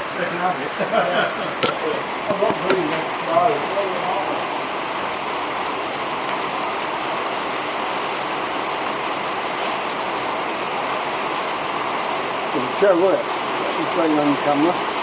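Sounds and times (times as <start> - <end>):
torrential rain: 0.0 - 15.0.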